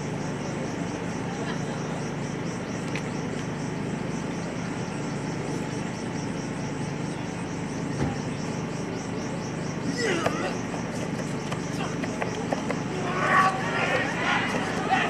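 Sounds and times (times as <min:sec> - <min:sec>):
continuous hum and hiss: 0:00.0 - 0:15.0
faint pulsing high chirr: 0:00.0 - 0:15.0.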